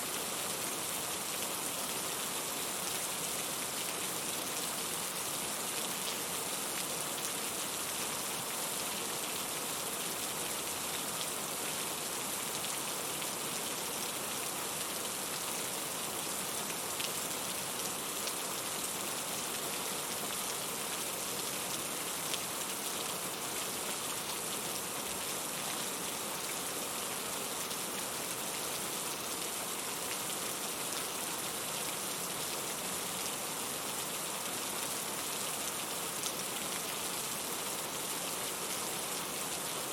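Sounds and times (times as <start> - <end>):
patter of raindrops: 0.0 - 39.9
steady rain hiss: 0.0 - 39.9.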